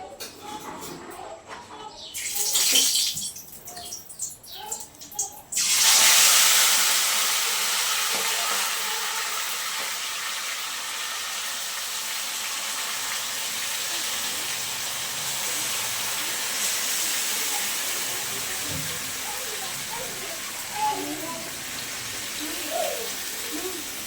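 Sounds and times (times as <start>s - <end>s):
food sizzling in oil: 2.2s - 24.0s.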